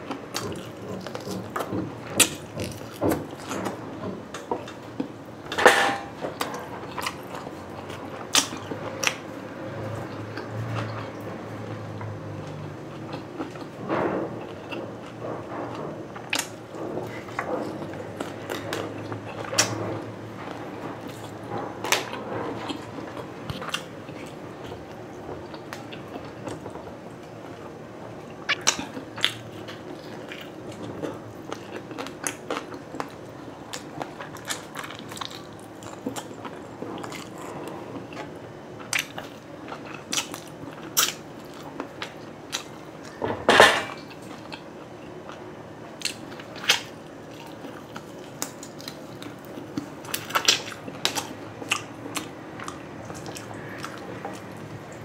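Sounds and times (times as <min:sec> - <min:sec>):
chewing and biting food: 0:00.0 - 0:05.2, 0:06.3 - 0:43.2, 0:43.9 - 0:55.0.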